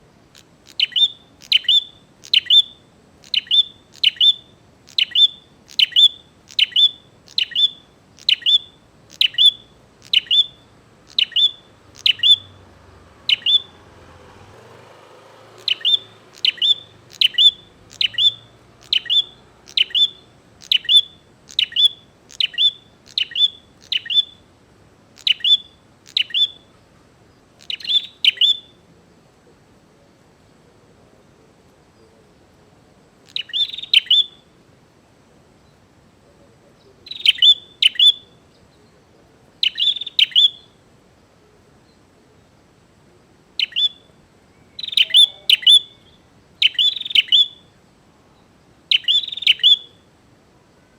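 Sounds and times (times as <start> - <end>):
bird chirping: 0.3 - 28.8, 33.2 - 34.6, 35.6 - 42.5, 43.6 - 50.9.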